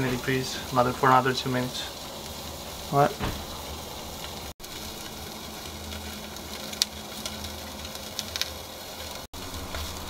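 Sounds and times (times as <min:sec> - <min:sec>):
meat searing hiss: 0:00.0 - 0:10.0
sharp crackles: 0:00.0 - 0:10.0.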